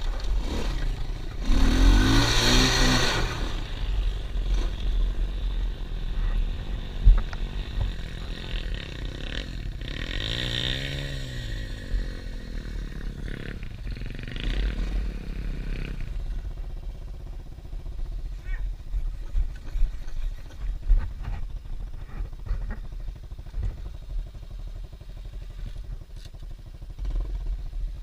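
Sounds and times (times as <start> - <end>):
pit bike engine running: 0.0 - 28.0.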